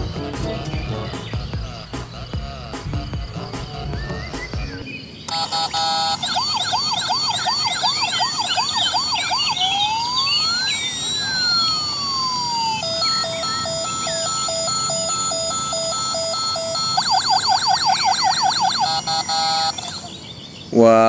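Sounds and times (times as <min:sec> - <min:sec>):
electronic ambulance siren: 0:03.2 - 0:20.2.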